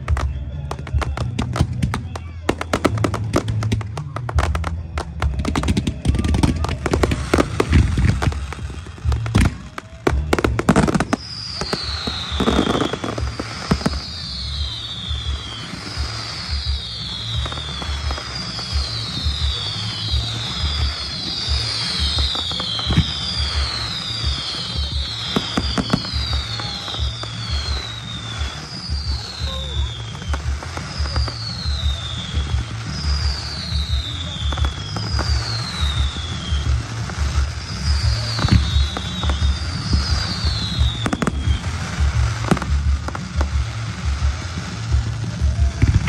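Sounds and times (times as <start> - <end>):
firework bangs: 0.0 - 46.0
fireworks crackling and fizzing: 0.0 - 46.0
music with low beat: 0.0 - 46.0.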